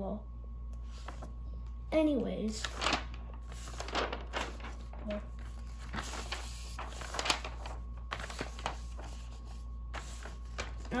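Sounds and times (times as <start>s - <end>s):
paper pages flipping: 0.8s - 1.4s, 2.5s - 11.0s.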